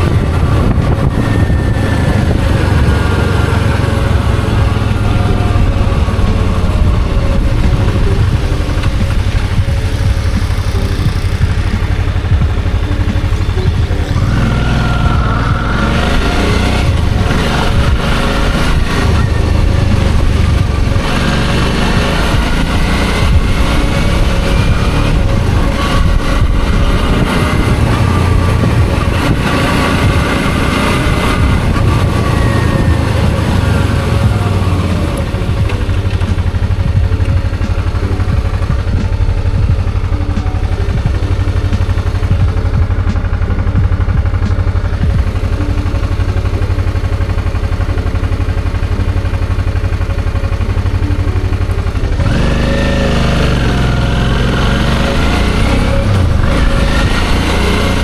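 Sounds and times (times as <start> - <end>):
heavy low rumble: 0.0 - 58.0
motorcycle engine running: 0.0 - 58.0.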